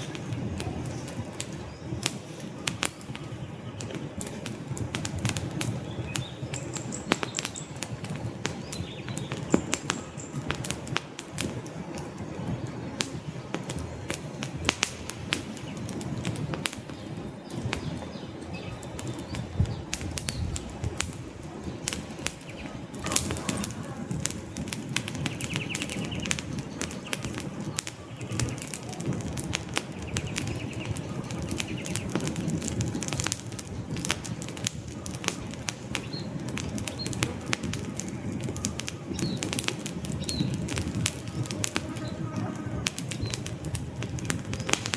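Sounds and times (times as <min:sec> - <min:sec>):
logs crackling and popping: 0:00.0 - 0:44.9
low rumble of flame: 0:00.0 - 0:44.9.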